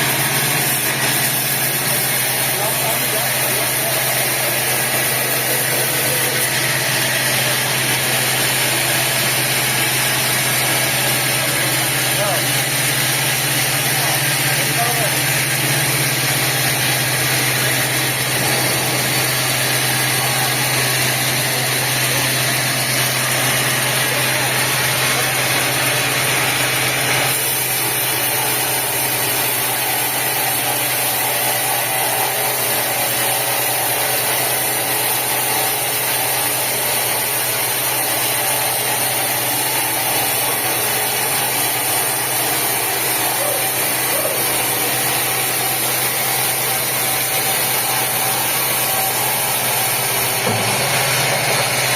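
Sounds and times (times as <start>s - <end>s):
sawmill machinery droning: 0.0s - 51.9s.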